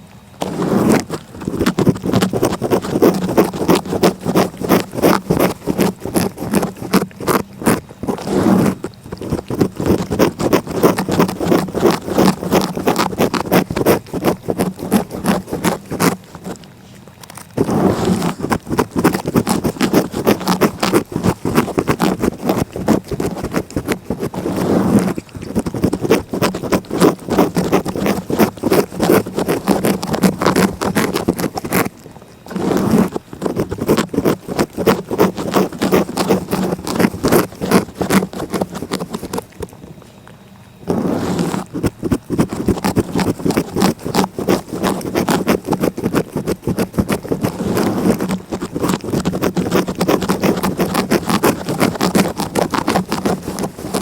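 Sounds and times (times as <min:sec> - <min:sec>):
cat licking: 0:00.4 - 0:54.0.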